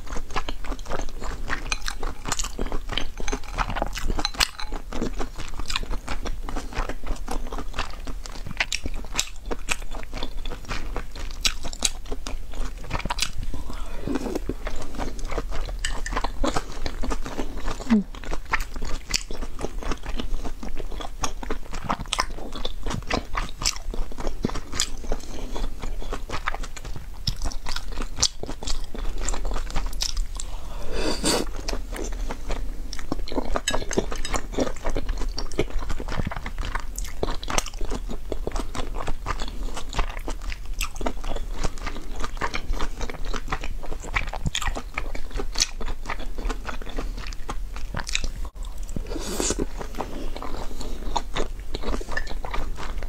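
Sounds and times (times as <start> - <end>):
chewing with mouth clicks: 0.0 - 30.6, 31.2 - 53.0.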